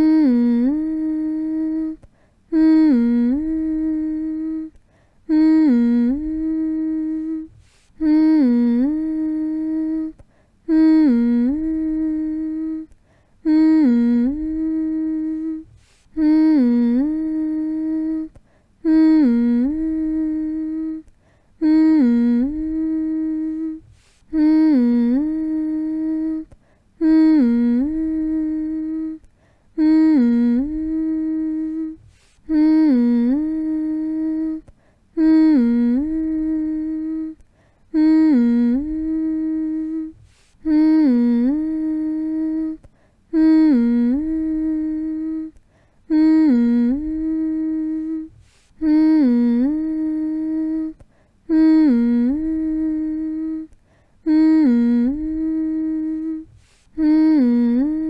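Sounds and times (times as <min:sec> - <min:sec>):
person humming: 0:00.0 - 0:58.0.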